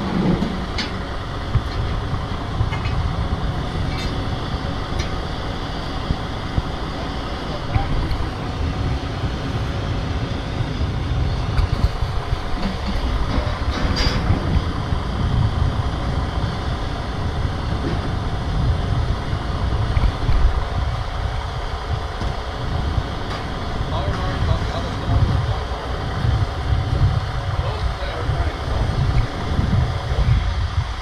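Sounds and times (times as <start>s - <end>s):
heavy truck engine running: 0.0s - 31.0s.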